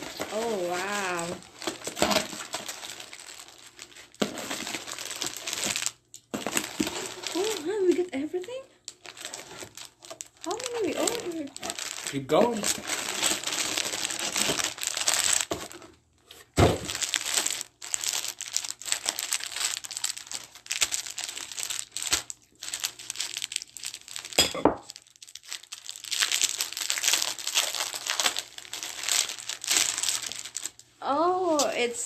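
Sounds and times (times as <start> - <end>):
plastic and paper crinkling: 0.0 - 32.0.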